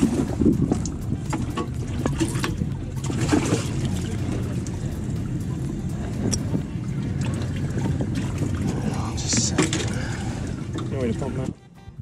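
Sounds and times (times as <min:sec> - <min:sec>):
water splashing and trickling: 0:00.0 - 0:11.6
steady low rumble: 0:00.0 - 0:12.0.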